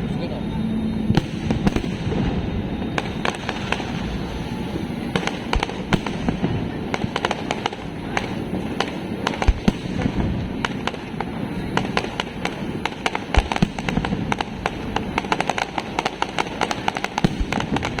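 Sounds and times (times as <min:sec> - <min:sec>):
low rumble: 0:00.0 - 0:18.0
fireworks bangs and pops: 0:01.1 - 0:04.5, 0:05.1 - 0:18.0.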